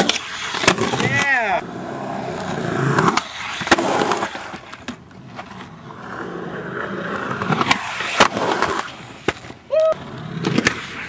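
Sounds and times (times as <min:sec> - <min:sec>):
skateboard wheels rolling on concrete: 0:00.0 - 0:11.0.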